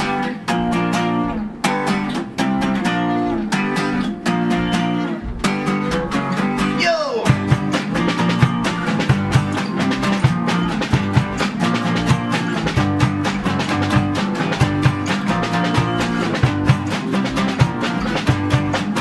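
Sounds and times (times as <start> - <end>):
acoustic guitars strumming: 0.0 - 19.0
rock band with drum kit: 0.0 - 19.0.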